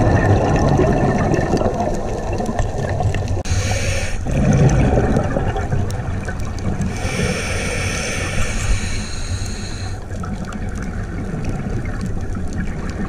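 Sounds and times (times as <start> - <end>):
diver's exhaled bubbles rushing: 0.0 - 9.5, 10.1 - 13.0
rush and rumble of water: 0.0 - 13.0.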